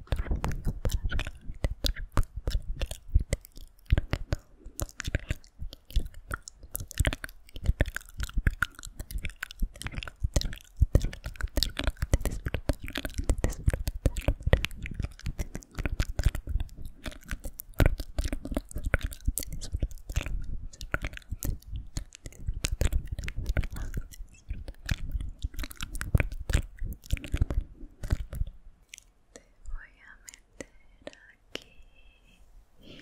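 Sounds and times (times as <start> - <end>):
wet mouth clicks and smacks: 0.0 - 31.7.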